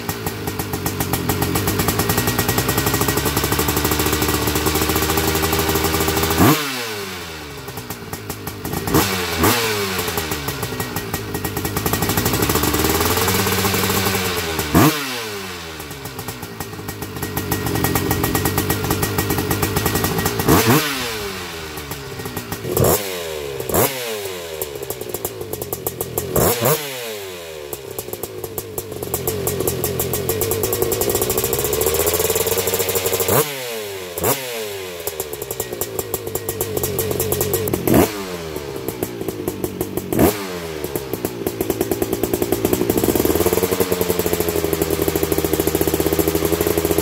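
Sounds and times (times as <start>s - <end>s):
two-stroke engine revving: 0.0s - 47.0s.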